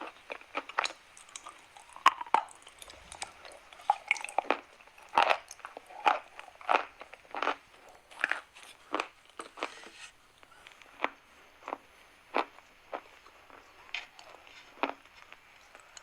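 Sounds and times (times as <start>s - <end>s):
chalk crunching while chewed: 0.0s - 16.0s.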